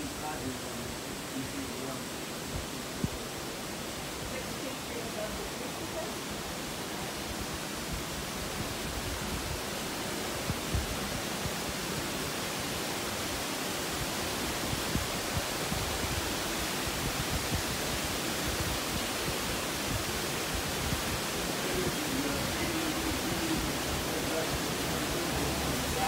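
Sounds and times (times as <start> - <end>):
canal water rushing: 0.0 - 26.0.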